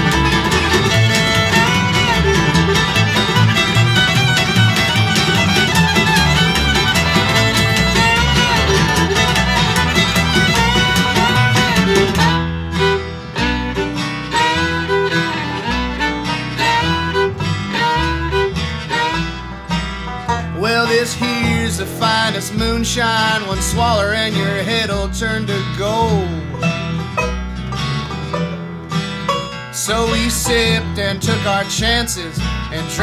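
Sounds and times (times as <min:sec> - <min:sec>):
fiddle: 0:00.0 - 0:33.0
guitar: 0:00.0 - 0:33.0
picked string instrument solo: 0:00.0 - 0:33.0.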